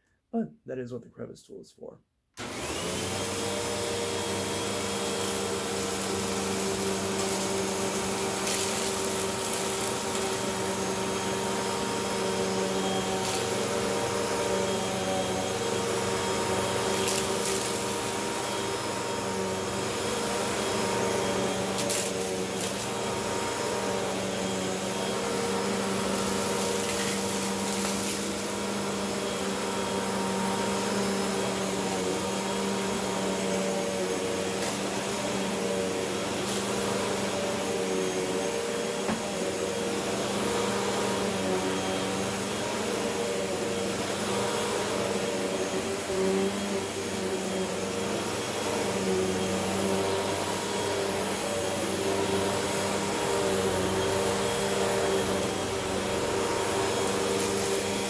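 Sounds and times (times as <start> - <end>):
vacuum cleaner motor running: 2.4 - 58.0.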